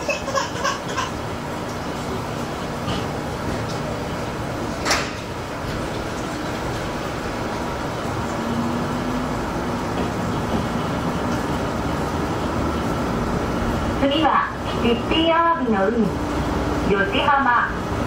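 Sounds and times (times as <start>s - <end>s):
diesel railcar engine: 0.0s - 18.0s.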